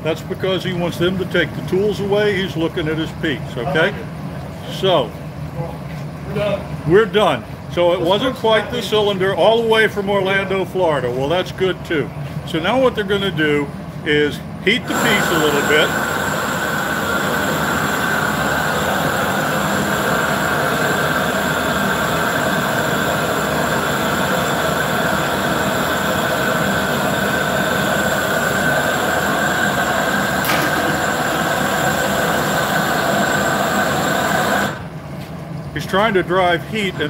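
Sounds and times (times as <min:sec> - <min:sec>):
gas burner roaring: 0:00.0 - 0:37.0.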